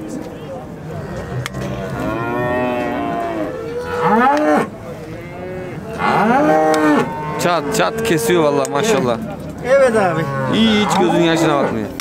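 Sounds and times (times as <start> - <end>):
calf mooing: 1.2 - 9.0, 9.8 - 11.8.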